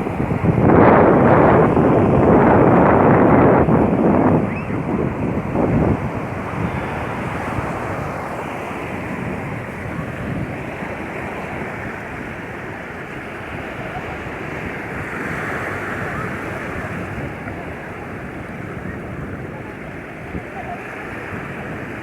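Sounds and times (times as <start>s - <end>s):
sea waves washing onto beach: 0.0s - 22.0s
wind blowing across microphone: 0.0s - 22.0s.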